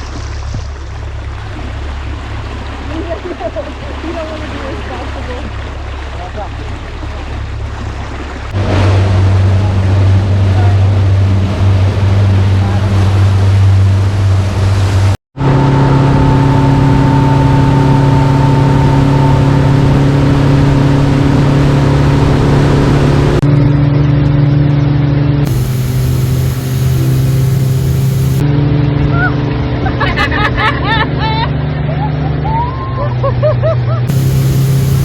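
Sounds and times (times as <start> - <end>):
motorboat engine droning: 0.0 - 35.0.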